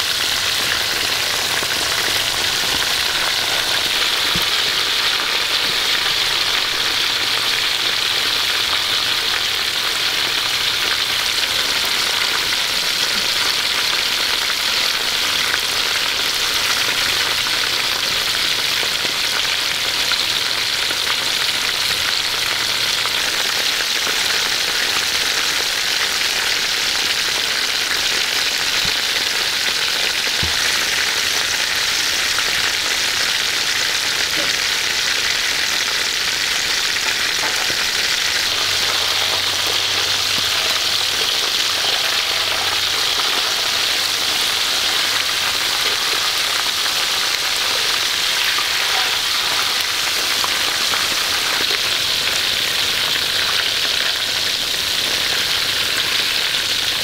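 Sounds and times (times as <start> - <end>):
hot oil sizzling in a wok: 0.0 - 57.0.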